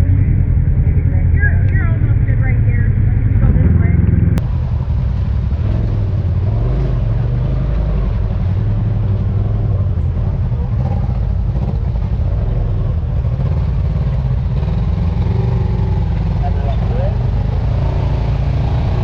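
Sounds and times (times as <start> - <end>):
utility vehicle engine rumble: 0.0 - 19.0.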